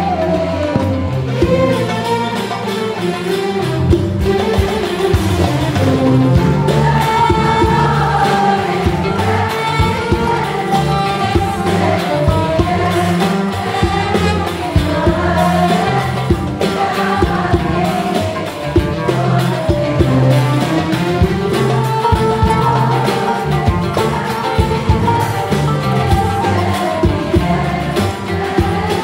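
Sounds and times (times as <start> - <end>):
audience singing: 0.0 - 29.0
percussion beat: 0.0 - 29.0.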